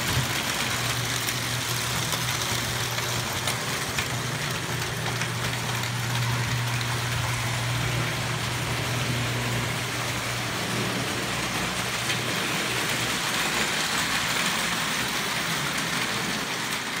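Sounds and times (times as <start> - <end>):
toy trains whirring rattle: 0.0 - 17.0.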